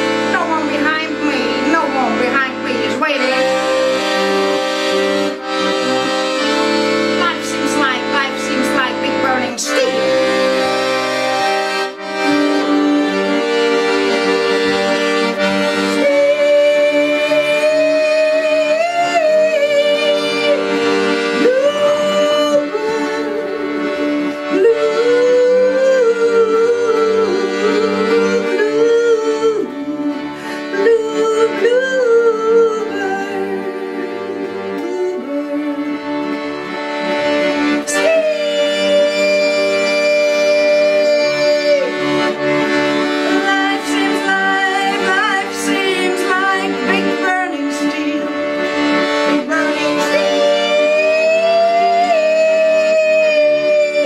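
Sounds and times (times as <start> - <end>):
wavering instrumental melody: 0.0 - 54.0.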